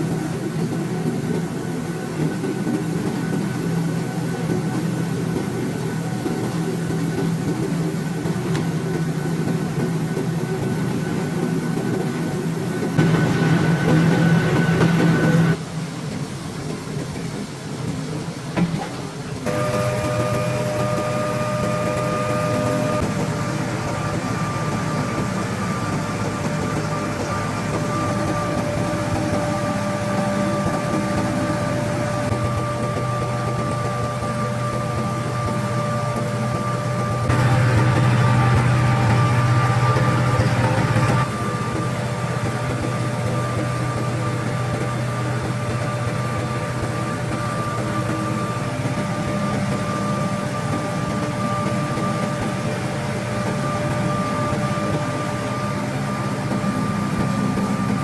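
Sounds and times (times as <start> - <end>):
machine engine droning with whine: 0.0 - 15.6, 19.4 - 58.0
motor humming steadily: 0.0 - 15.6, 19.4 - 58.0.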